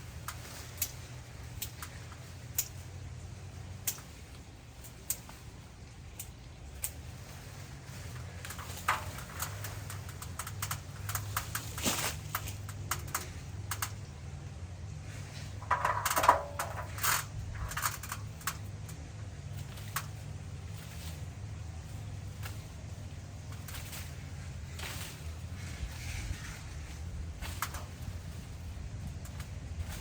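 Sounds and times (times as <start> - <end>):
twigs and branches snapping: 0.0 - 14.5, 15.2 - 30.0
steady low hum: 0.0 - 30.0.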